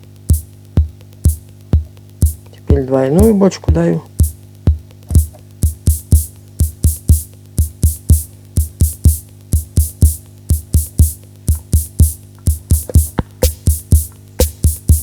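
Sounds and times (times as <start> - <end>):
drum machine bass drum thumps: 0.0 - 15.0.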